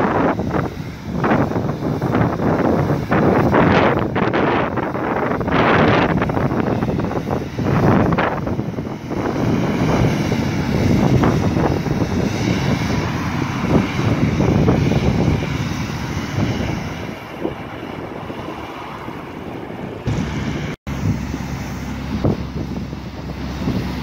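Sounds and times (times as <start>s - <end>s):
diesel engine running: 0.0s - 24.0s
rotary broom sweeping pavement: 0.0s - 24.0s
truck engine running: 0.0s - 24.0s
wind buffeting microphone: 0.0s - 24.0s.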